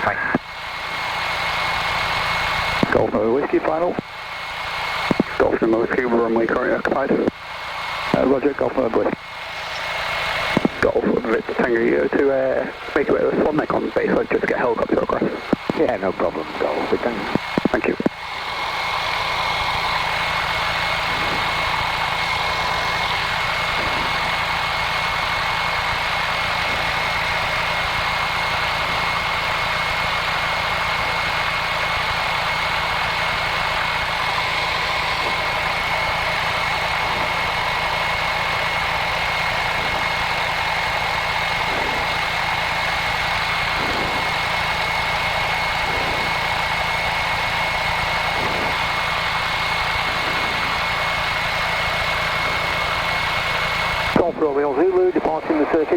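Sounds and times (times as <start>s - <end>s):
aircraft piston engine idling: 0.0s - 55.9s
thin high-pitched whine: 4.9s - 55.9s.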